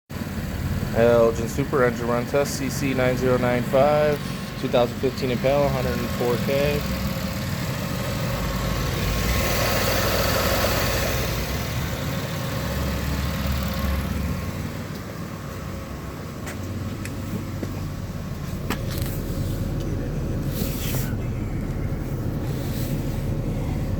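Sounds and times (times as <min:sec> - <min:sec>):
car engine running: 0:00.1 - 0:23.9.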